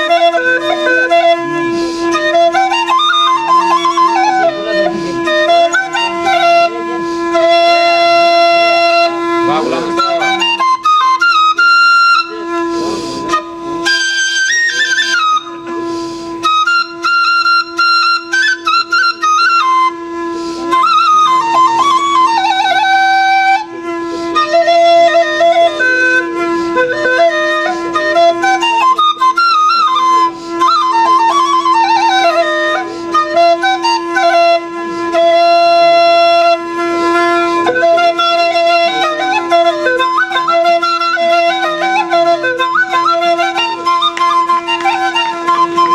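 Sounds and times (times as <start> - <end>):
twin-pipe flute melody over drone: 0.0 - 45.9.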